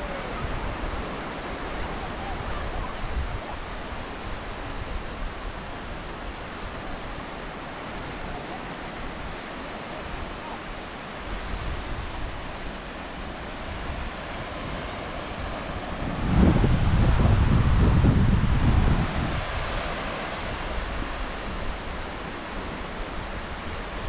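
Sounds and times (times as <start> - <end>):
small surf on beach: 0.0 - 24.0
wind gusting on microphone: 0.0 - 24.0.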